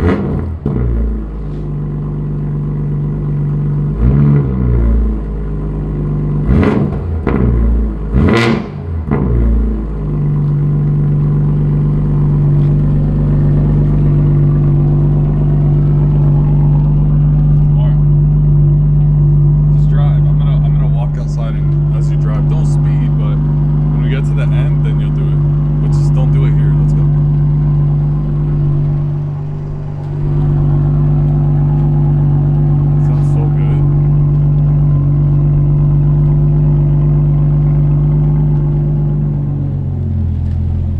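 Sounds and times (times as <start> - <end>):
car engine revving and idling: 0.0 - 40.9.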